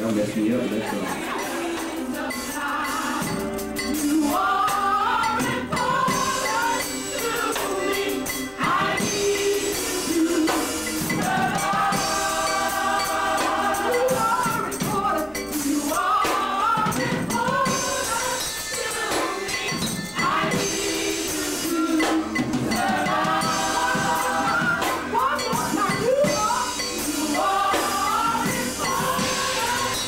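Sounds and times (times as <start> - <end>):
choir singing gospel music: 0.0 - 30.0
percussion strokes: 0.0 - 30.0.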